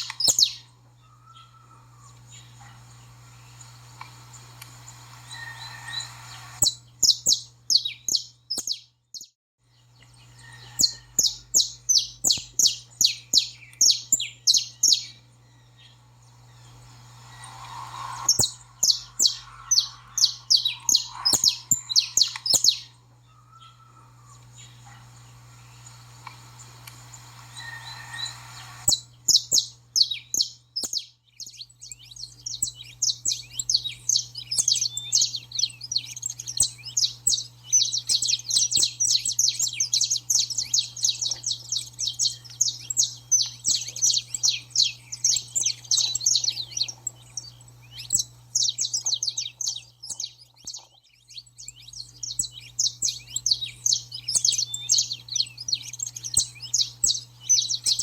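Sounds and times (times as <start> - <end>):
steady low hum: 0.0 - 8.4, 11.1 - 58.0
finch rapid chirping song: 0.0 - 58.0.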